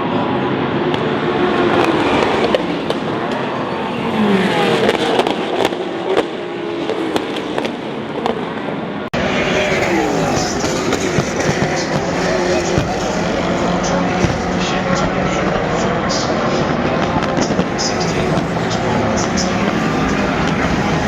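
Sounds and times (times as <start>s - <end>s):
race cars passing at speed: 0.0s - 21.0s.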